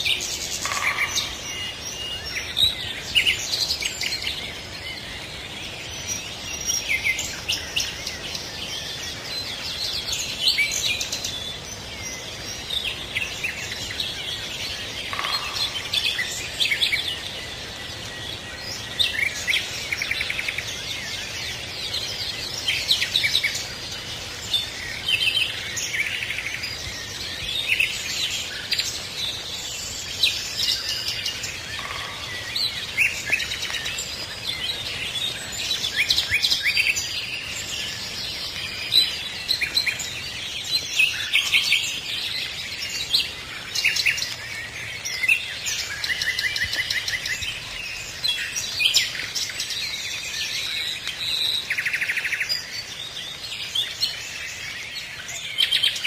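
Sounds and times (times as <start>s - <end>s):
faint background hiss: 0.0s - 56.0s
songbirds chirping and trilling: 0.0s - 56.0s.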